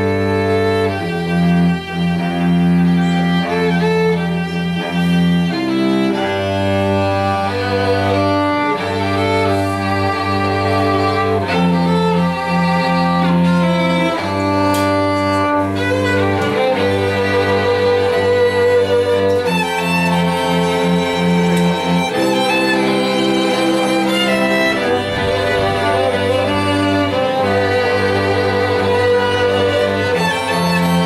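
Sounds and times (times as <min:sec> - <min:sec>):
string ensemble playing slowly: 0:00.0 - 0:31.0.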